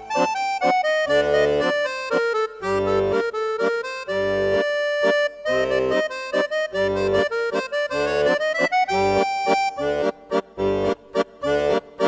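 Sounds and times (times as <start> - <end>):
lively folk accordion music: 0.0 - 12.0.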